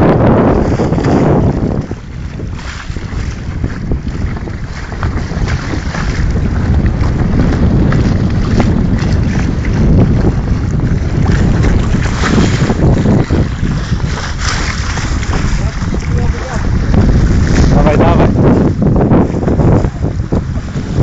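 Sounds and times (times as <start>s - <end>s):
water splashing along a boat hull: 0.0s - 21.0s
wind buffeting the microphone: 0.0s - 21.0s.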